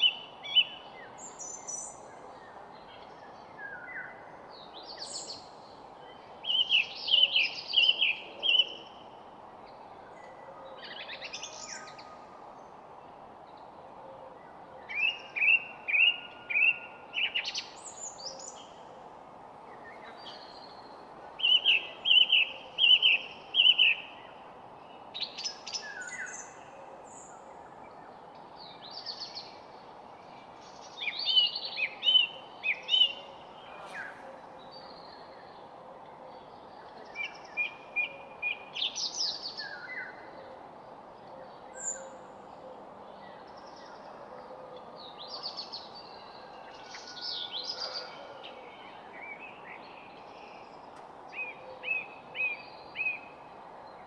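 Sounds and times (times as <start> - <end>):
steady background hiss: 0.0 - 47.8, 48.4 - 54.0.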